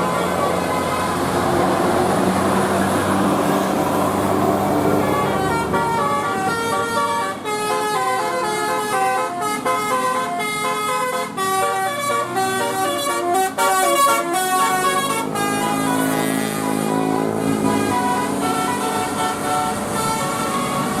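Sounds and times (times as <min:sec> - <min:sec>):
musical bus horn tune: 0:00.0 - 0:04.0, 0:04.8 - 0:21.0.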